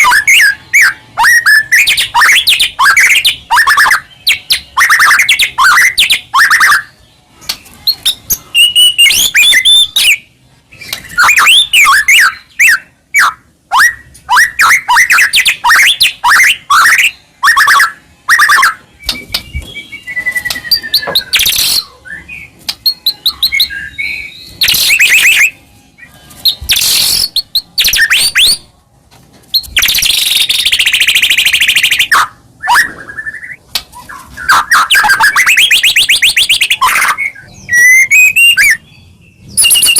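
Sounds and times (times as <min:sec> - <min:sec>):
bird singing whistled phrases: 0:00.0 - 0:07.0, 0:07.8 - 0:10.3, 0:10.9 - 0:28.6, 0:29.5 - 0:39.9.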